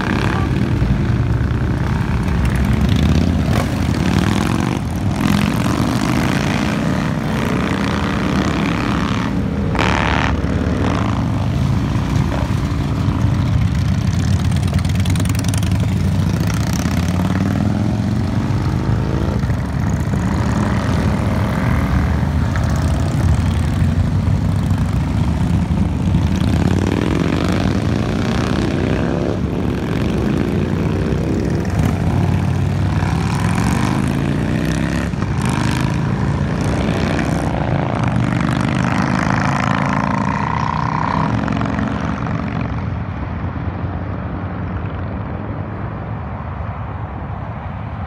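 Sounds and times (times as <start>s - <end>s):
motorcycles accelerating past: 0.0s - 43.1s.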